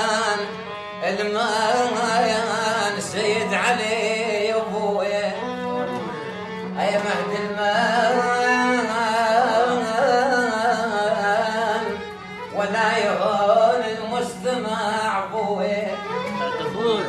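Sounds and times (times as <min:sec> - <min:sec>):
ornamented folk melody: 0:00.0 - 0:17.0.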